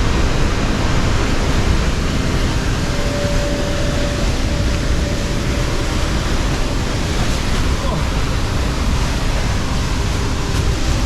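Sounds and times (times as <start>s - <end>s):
river and waterfall roaring: 0.0s - 11.0s.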